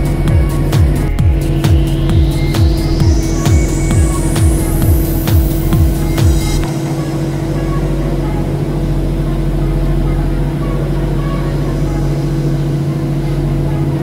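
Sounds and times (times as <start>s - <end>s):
low mechanical hum: 0.0s - 14.0s
rushing noise: 0.0s - 14.0s.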